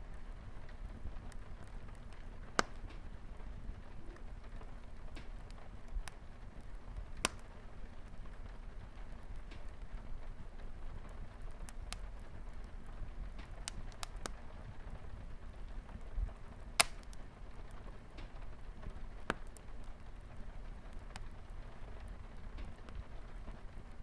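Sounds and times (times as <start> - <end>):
light rain hiss: 0.0 - 24.0
wood fire crackling: 0.0 - 24.0.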